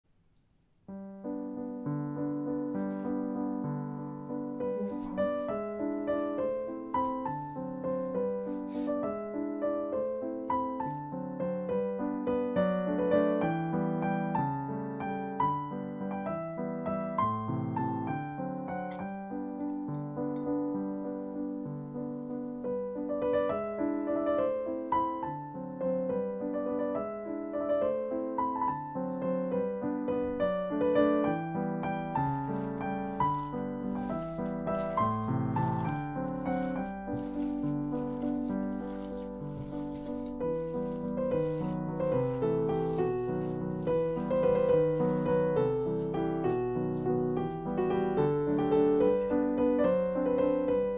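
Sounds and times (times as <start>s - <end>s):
gentle piano music: 0.8s - 50.9s.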